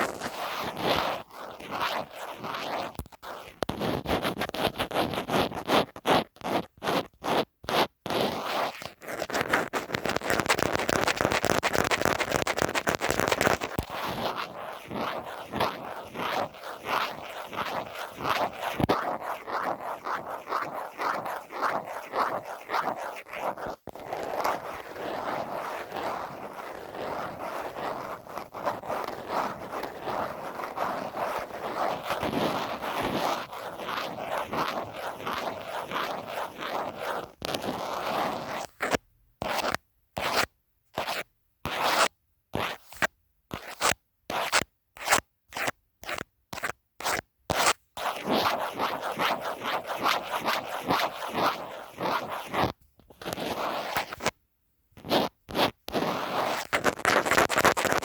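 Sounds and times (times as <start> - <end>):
scratching on phone case: 0.0 - 54.4, 55.0 - 58.0.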